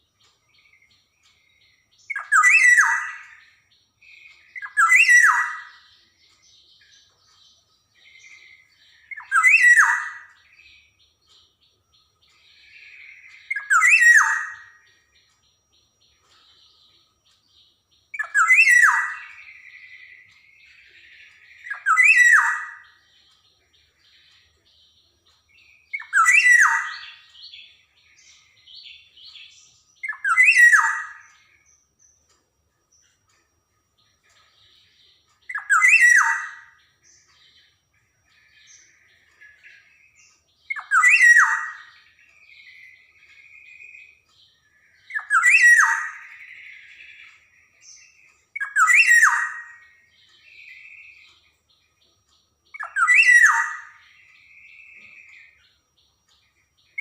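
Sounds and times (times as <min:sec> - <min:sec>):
bird calling: 0:00.0 - 0:07.2, 0:08.0 - 0:11.2, 0:12.2 - 0:15.4, 0:18.1 - 0:31.7, 0:34.2 - 0:51.6, 0:52.7 - 0:55.8.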